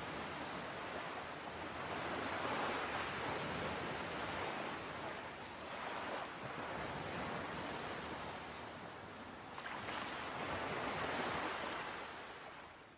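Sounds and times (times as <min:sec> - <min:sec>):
wind: 0:00.0 - 0:12.9.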